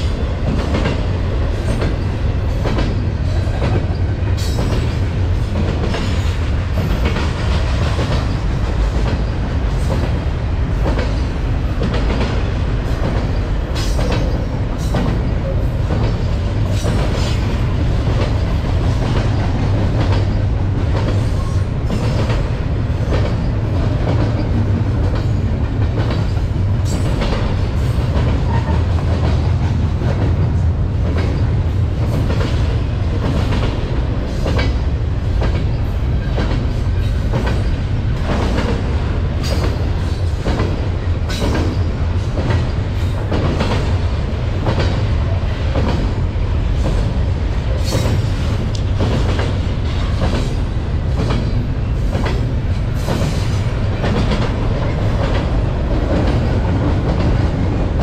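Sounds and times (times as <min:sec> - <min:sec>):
train wheels rumbling: 0:00.0 - 0:58.0
wheels clacking on rails: 0:00.0 - 0:58.0.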